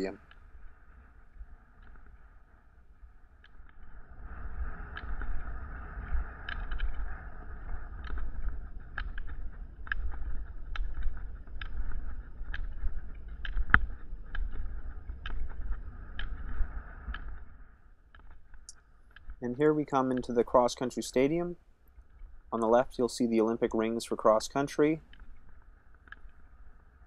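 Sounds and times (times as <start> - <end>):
wind rumbling on microphone: 0.0 - 27.0
rollerskis rolling on asphalt: 0.2 - 27.0
ski pole tips clicking on pavement: 0.2 - 27.0.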